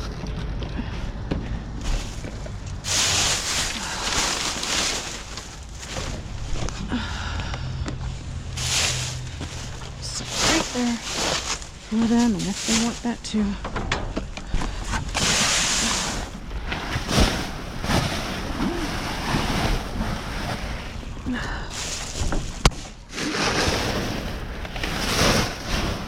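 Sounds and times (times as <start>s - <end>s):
bags rustling: 1.8s - 7.3s, 8.0s - 26.0s.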